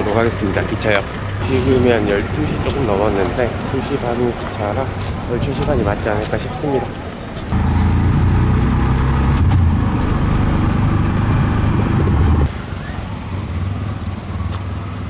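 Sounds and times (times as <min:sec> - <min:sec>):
auto-rickshaw engine running: 0:00.0 - 0:05.7, 0:06.9 - 0:15.0
outdoor traffic background: 0:00.0 - 0:15.0
road noise: 0:00.0 - 0:15.0.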